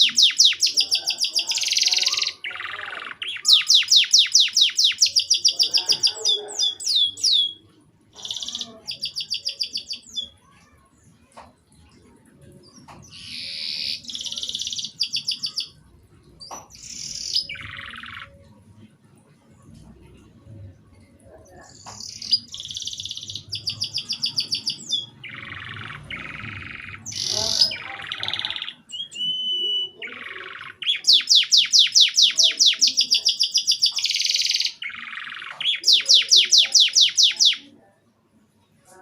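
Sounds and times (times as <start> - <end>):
canary singing trills: 0.0 - 10.4, 12.7 - 15.8, 16.4 - 18.5, 21.7 - 37.8.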